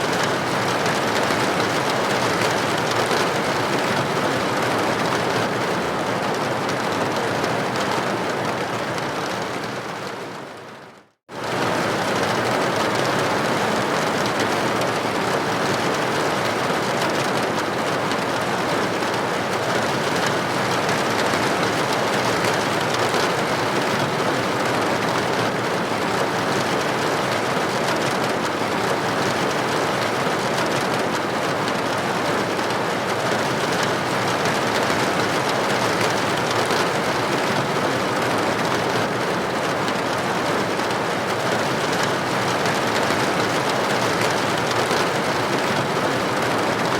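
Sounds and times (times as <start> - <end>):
rain hitting a window: 0.0 - 46.9.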